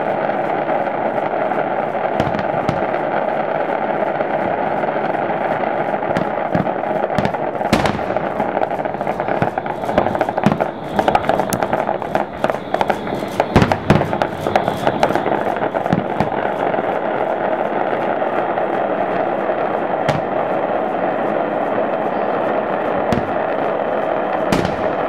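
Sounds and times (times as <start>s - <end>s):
fine crackling: 0.0s - 25.0s
firework shells bursting: 0.0s - 25.0s
steady background rush: 0.0s - 25.0s.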